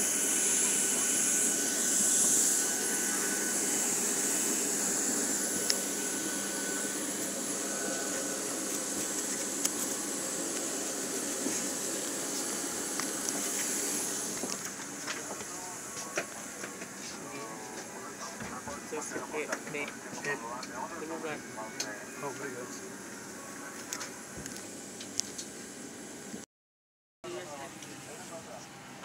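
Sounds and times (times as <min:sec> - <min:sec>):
jet turbine whine: 0:00.0 - 0:26.4.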